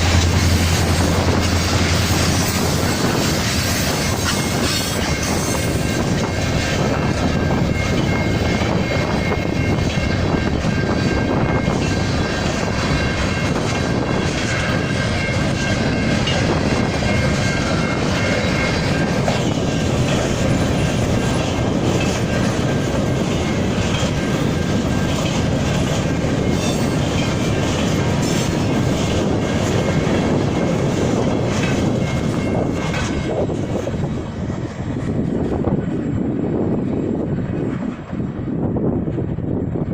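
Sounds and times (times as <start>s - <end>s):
high wheel squeal: 0.0s - 34.0s
train wheels clicking over rail joints: 0.0s - 38.4s.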